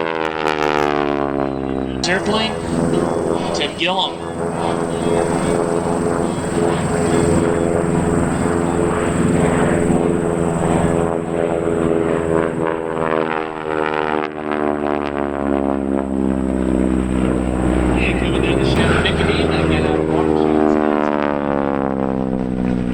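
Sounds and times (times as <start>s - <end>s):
propeller plane flying past: 0.1s - 22.9s.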